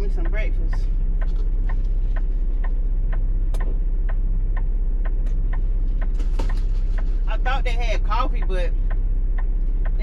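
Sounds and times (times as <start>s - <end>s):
truck engine droning: 0.0s - 10.0s
turn signal relay clicking: 0.0s - 10.0s.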